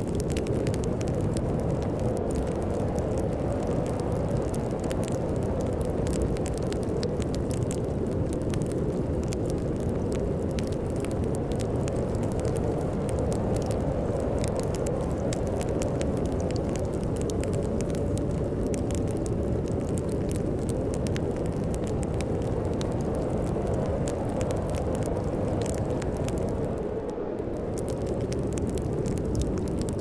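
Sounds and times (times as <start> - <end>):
storm wind rushing: 0.0 - 30.0
wood fire crackling and popping: 0.0 - 30.0.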